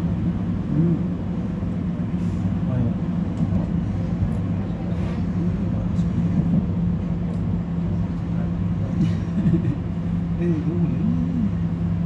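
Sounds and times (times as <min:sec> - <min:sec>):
train interior hum: 0:00.0 - 0:12.0
wheels rumbling on track: 0:00.0 - 0:12.0.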